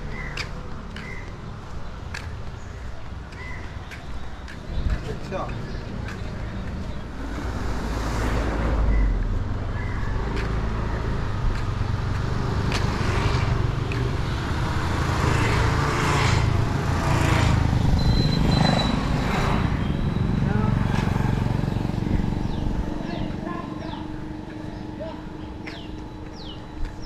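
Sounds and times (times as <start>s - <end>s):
traffic noise: 0.0s - 27.0s.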